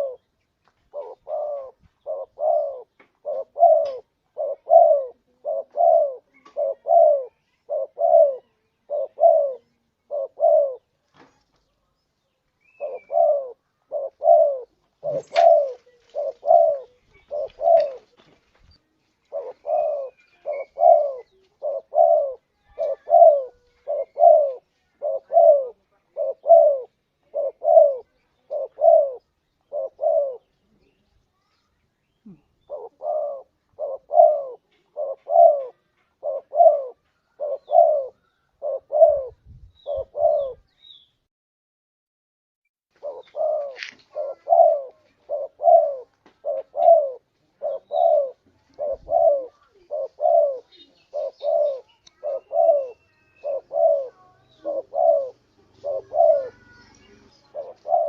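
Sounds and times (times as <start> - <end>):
dove cooing: 0.0 - 0.3, 0.9 - 11.0, 12.6 - 18.3, 19.2 - 31.0, 32.2 - 40.7, 43.0 - 58.0.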